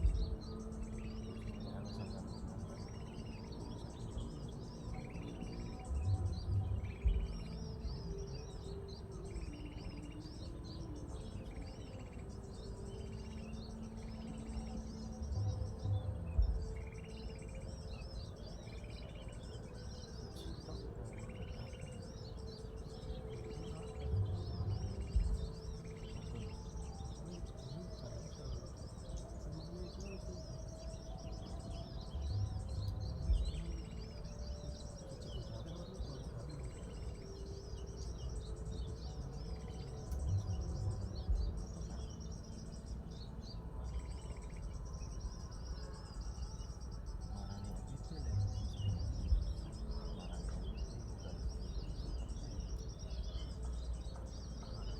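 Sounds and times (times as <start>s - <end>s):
songbird chirps: 0.0s - 54.9s.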